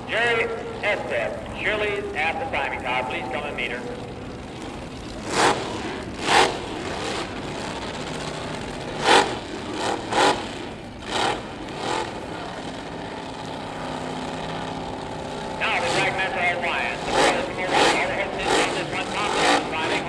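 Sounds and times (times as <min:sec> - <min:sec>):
engine revs: 0:00.0 - 0:20.0
steady engine drone: 0:00.0 - 0:20.0.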